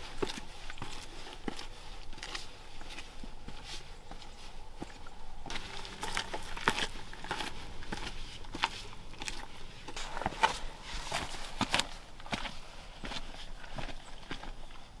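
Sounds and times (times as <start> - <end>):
footsteps on trail: 0.0 - 15.0.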